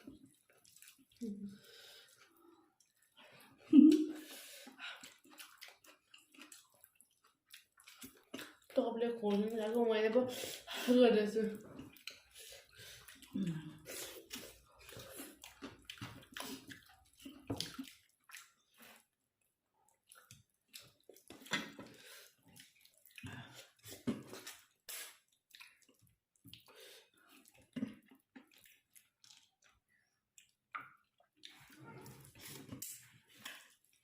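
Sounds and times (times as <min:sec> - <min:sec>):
person chewing and slurping: 0:00.1 - 0:08.8, 0:11.6 - 0:19.2, 0:19.9 - 0:30.6, 0:31.3 - 0:34.0.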